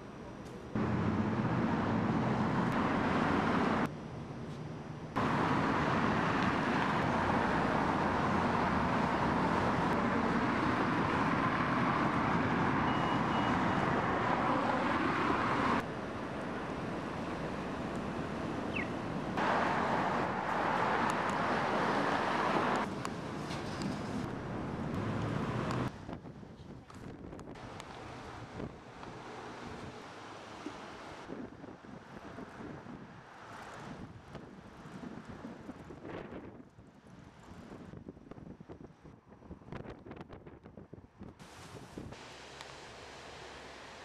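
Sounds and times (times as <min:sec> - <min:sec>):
city street traffic: 0:00.0 - 0:39.6.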